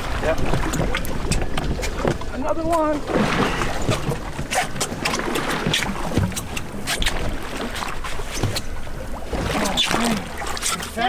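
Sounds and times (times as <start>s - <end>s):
water sloshing against boat hull: 0.0s - 11.0s
water splashes: 0.0s - 11.0s.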